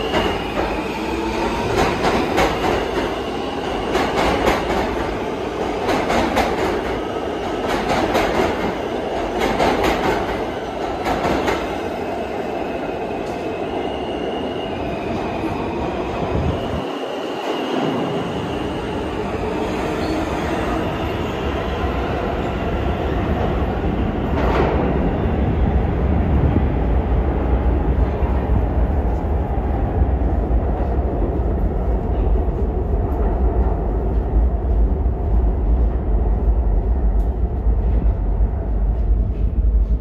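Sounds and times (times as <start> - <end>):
subway train rumbling on track: 0.0 - 40.0.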